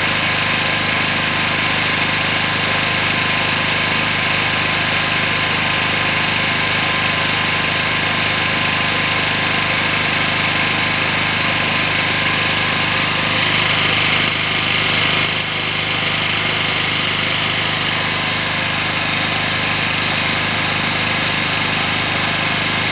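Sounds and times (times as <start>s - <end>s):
small generator engine running: 0.0s - 22.9s.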